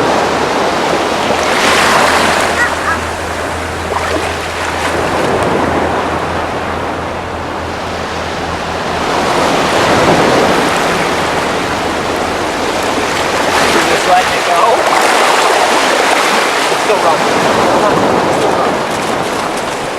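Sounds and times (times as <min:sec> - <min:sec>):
ocean surf breaking: 0:00.0 - 0:19.9
wind rumble on microphone: 0:00.0 - 0:19.9.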